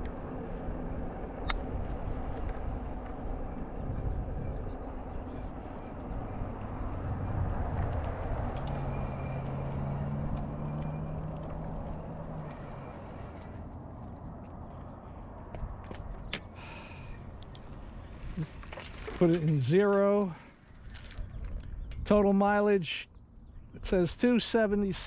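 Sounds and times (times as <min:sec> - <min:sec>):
engine hum: 0:00.0 - 0:22.0
vehicle low rumble: 0:00.0 - 0:25.0.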